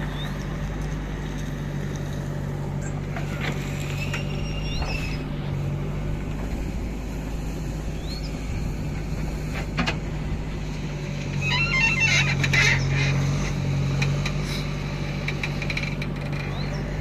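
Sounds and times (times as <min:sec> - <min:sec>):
backhoe diesel engine: 0:00.0 - 0:17.0.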